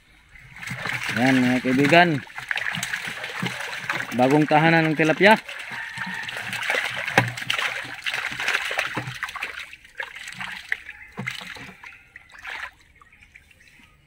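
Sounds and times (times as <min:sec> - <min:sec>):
water pouring and splashing: 0:00.2 - 0:14.0.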